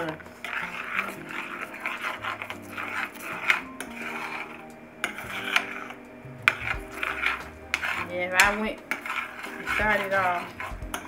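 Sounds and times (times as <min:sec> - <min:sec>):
fork scraping eggs in skillet: 0:00.0 - 0:11.0.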